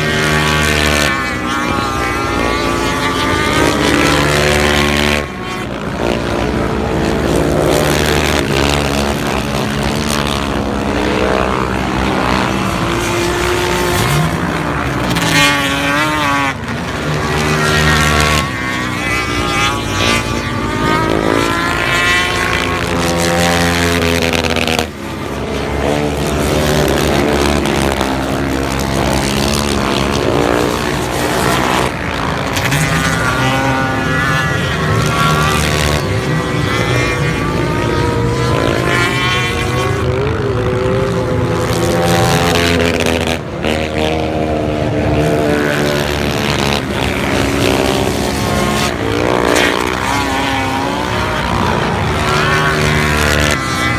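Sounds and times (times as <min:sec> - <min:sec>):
racing engines revving: 0:00.0 - 0:53.9.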